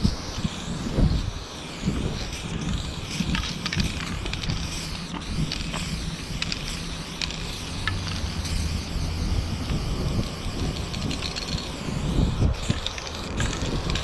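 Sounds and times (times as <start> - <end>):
spray paint can hissing: 0.0 - 14.0.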